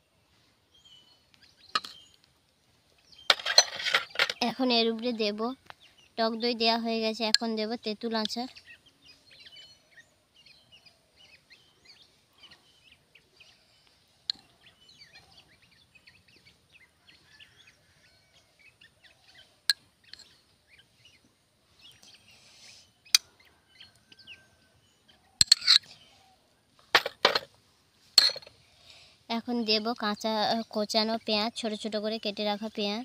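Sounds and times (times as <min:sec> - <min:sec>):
rustle: 0:00.0 - 0:06.2, 0:08.4 - 0:29.3
small birds chirping: 0:00.0 - 0:33.0.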